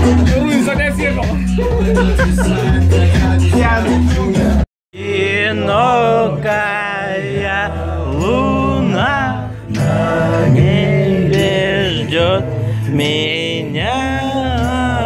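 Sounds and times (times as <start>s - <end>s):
song with sung melody and bass: 0.0s - 15.0s.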